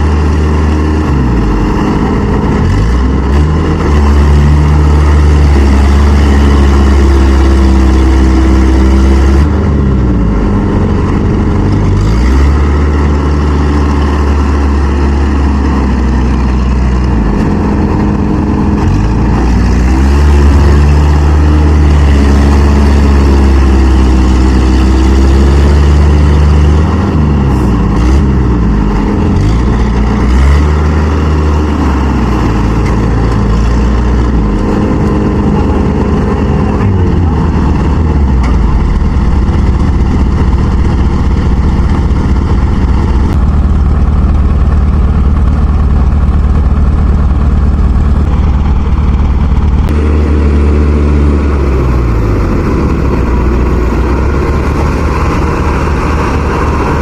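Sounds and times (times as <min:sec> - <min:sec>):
engines labouring under heavy load: 0:00.0 - 0:57.0.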